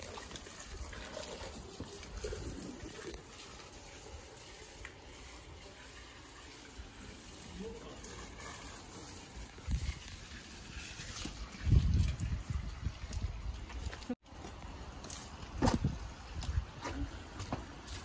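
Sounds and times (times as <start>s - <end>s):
water spraying from hose: 0.0s - 18.0s.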